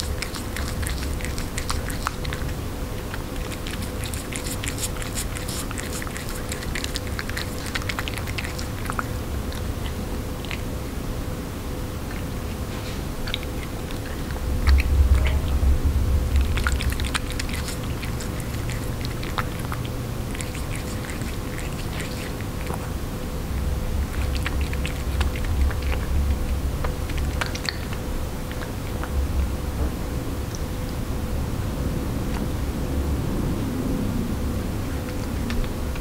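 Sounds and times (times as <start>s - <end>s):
cat licking and chewing food: 0.0s - 36.0s
faint steady hum: 0.0s - 36.0s.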